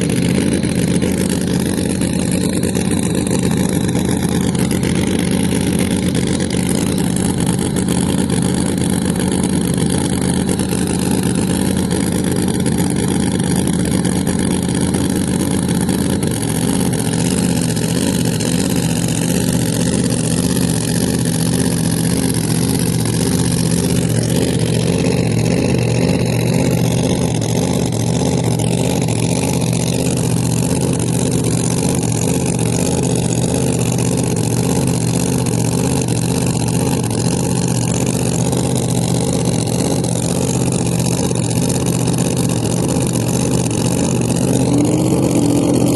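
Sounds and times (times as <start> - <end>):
drag car engine idling: 0.0 - 45.9.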